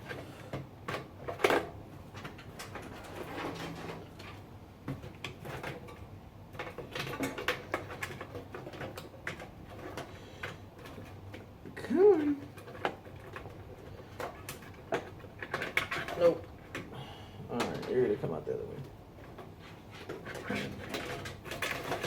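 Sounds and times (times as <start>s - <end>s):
cable connectors clicking and rattling: 0.0s - 22.0s.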